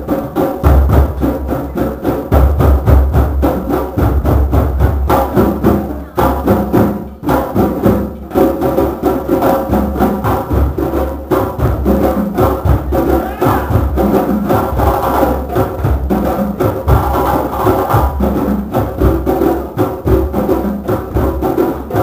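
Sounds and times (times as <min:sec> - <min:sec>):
drum circle hand drums: 0:00.0 - 0:22.0.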